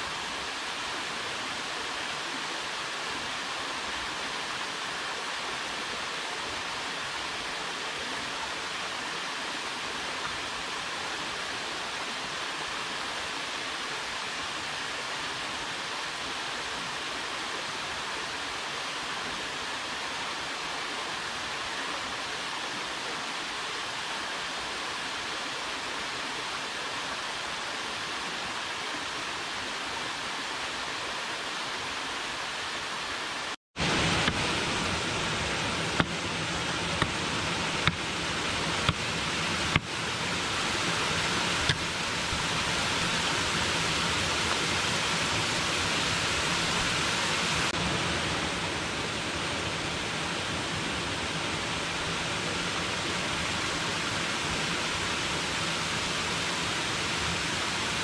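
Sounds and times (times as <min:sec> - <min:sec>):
small waterfall: 0:00.0 - 0:58.0
stream flowing over rocks: 0:00.0 - 0:58.0.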